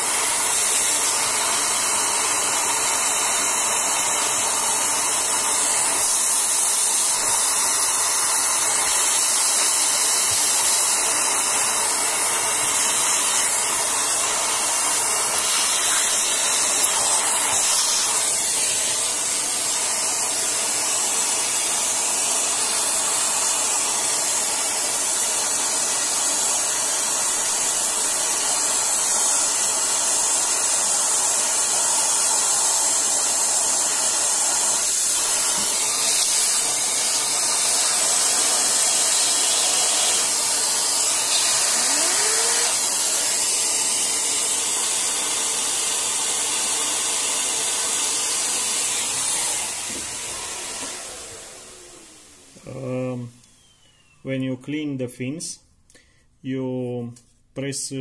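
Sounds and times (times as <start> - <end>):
vacuum cleaner running: 0.0 - 54.2.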